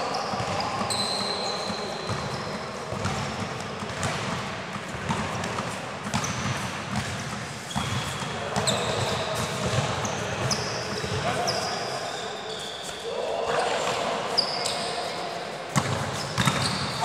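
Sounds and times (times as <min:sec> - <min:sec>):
shoes squeaking on court floor: 0:00.0 - 0:17.0.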